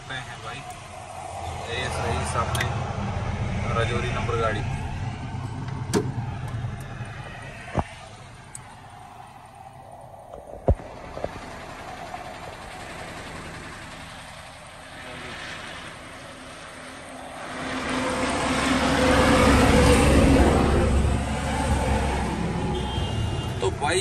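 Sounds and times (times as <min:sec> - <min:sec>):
road noise: 0:00.0 - 0:24.0
truck engine rumble: 0:00.0 - 0:24.0
truck passing close: 0:00.0 - 0:24.0.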